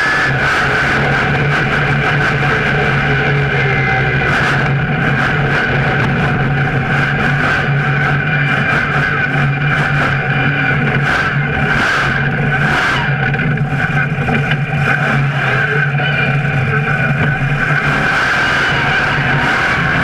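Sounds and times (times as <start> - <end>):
truck engine running loud: 0.0 - 20.0.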